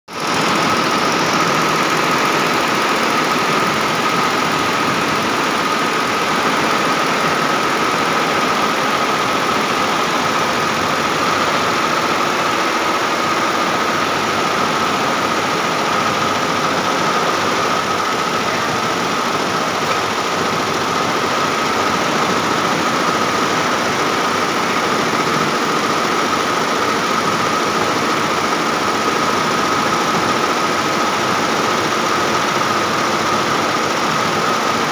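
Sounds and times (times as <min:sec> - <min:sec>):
embroidery machine clatter: 0:00.1 - 0:34.9
constant high machine whine: 0:00.2 - 0:34.9.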